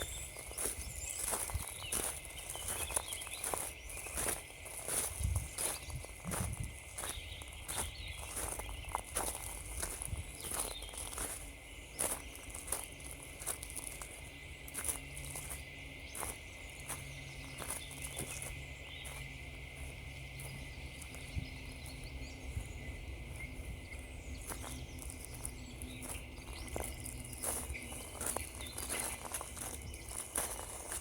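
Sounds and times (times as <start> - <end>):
footsteps crunching on frozen ground: 0.0 - 31.0.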